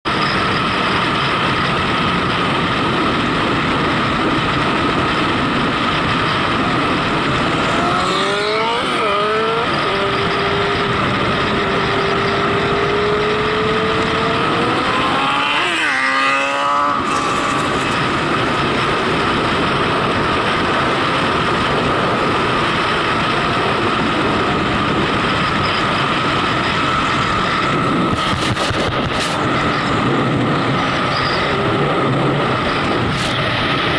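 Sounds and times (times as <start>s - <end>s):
wind and road noise: 0.0s - 33.9s
engine shifting up through gears: 0.1s - 33.9s.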